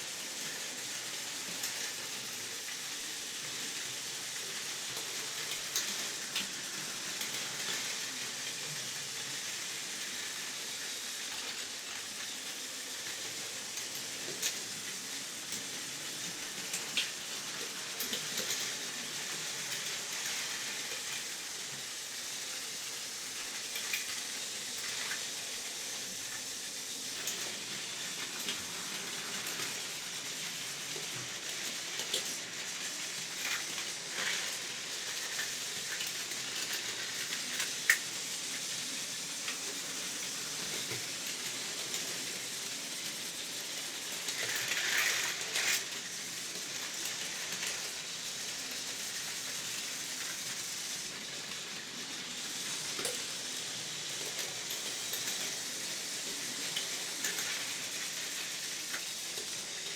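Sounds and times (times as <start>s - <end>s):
toy train clicks: 0.0s - 59.9s
toy train whirring rattle: 0.0s - 59.9s.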